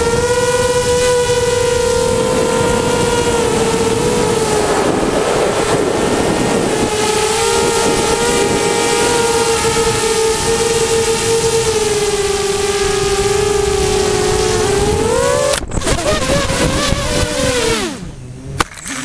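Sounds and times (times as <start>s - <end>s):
rushing air noise: 0.0s - 18.3s
drone motors whining: 0.0s - 19.0s.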